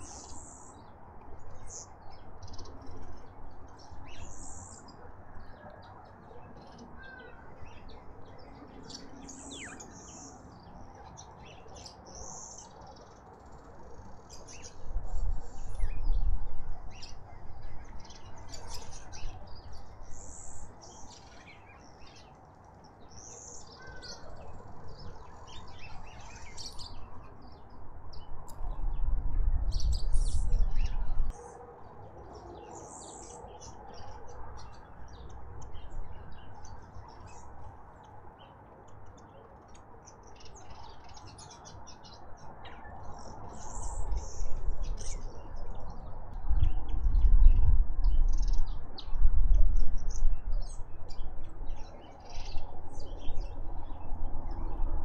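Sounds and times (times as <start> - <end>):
small birds chirping: 0.0 - 29.1, 29.7 - 55.0.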